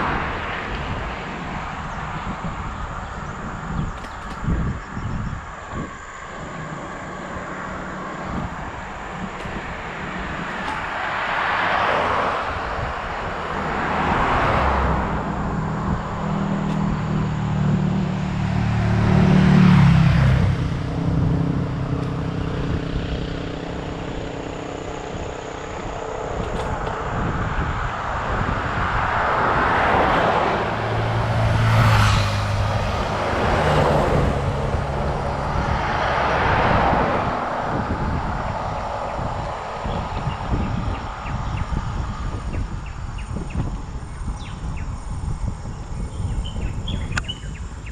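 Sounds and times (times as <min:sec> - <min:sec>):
vehicles passing on road: 0:00.0 - 0:47.9.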